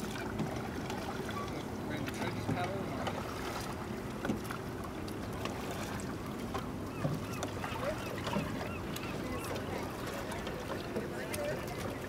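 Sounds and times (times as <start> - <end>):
paddles splashing in water: 0.0 - 12.0.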